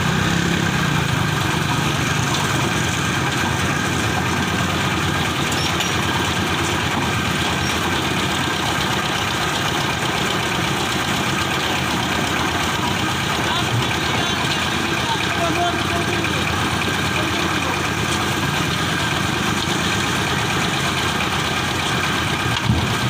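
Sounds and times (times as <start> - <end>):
construction machinery engine running: 0.0 - 23.0.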